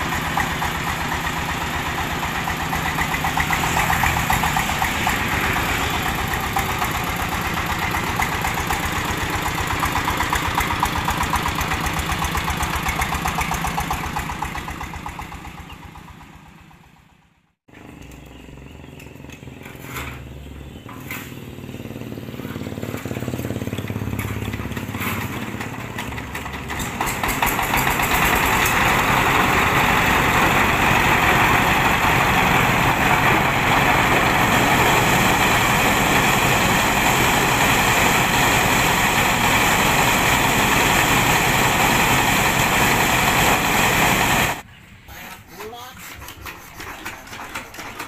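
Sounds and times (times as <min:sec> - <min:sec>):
diesel engine running: 0:00.0 - 0:19.0, 0:21.4 - 0:44.7.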